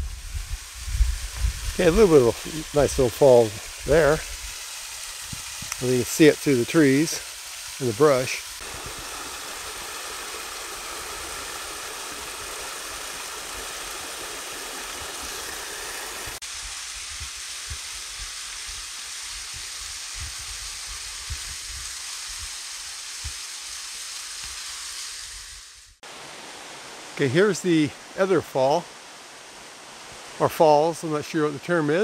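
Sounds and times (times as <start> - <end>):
forest waterfall rushing: 0.0 - 32.0.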